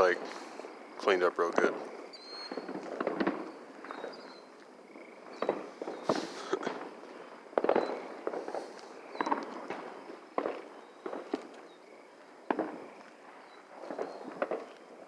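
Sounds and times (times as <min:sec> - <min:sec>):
distant fireworks bangs: 0:00.0 - 0:15.0.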